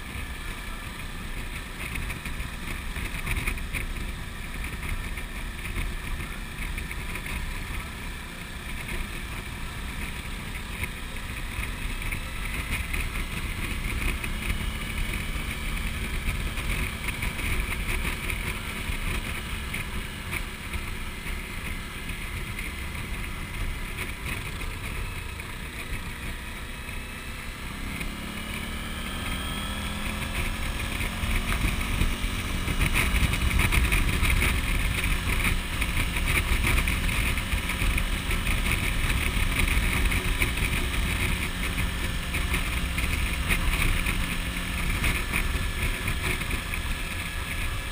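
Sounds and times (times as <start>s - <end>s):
motorcycle engine drone: 0.0s - 47.9s.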